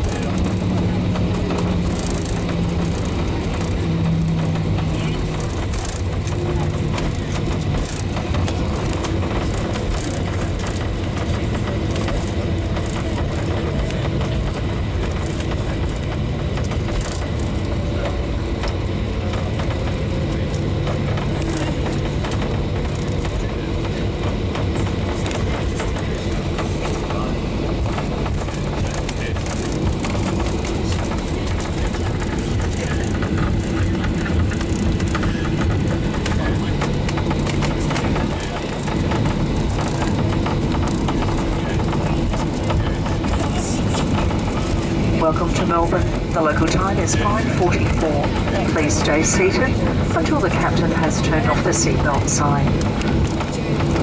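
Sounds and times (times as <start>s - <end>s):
jet engines humming: 0.0s - 54.0s
landing gear rumble: 0.0s - 54.0s.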